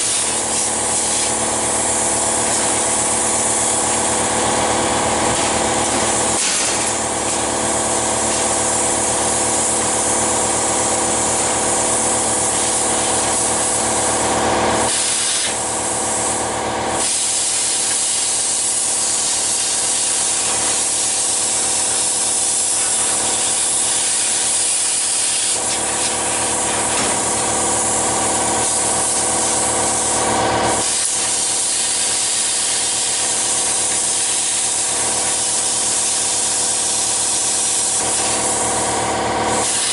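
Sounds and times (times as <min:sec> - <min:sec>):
steady hum: 0:00.0 - 0:17.0, 0:20.2 - 0:39.9
plasma cutter hissing: 0:00.0 - 0:39.9.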